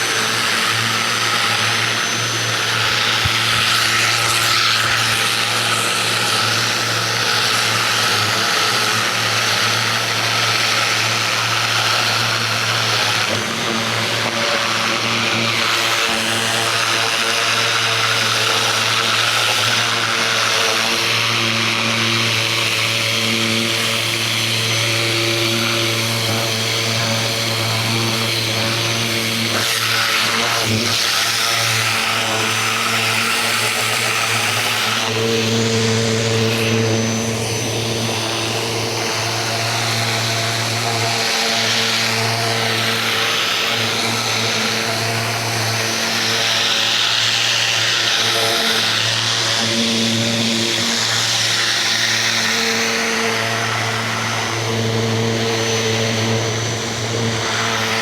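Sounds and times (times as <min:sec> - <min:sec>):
pressure washer motor humming: 0:00.0 - 0:58.0.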